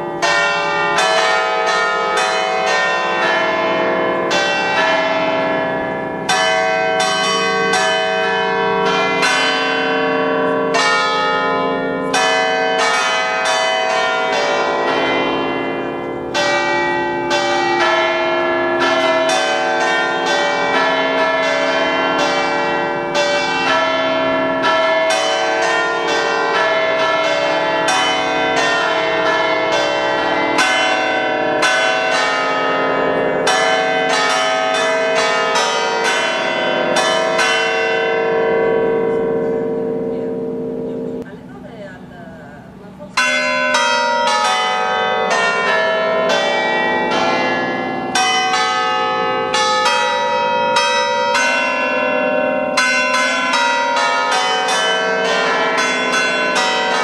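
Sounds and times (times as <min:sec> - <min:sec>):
tower bells ringing a tune: 0:00.0 - 0:57.0.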